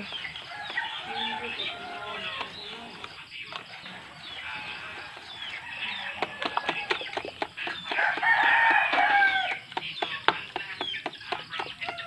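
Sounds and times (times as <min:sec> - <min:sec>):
birds chirping: 0:00.0 - 0:12.0
chickens clucking: 0:00.0 - 0:12.0.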